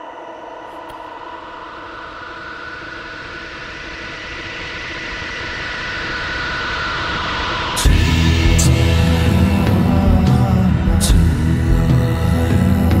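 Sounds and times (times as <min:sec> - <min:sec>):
progressive rock instrumental swell: 0:01.4 - 0:13.0.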